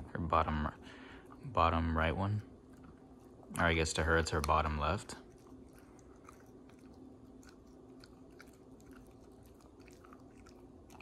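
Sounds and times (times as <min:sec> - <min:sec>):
puppy chewing and crunching: 0:01.0 - 0:11.0.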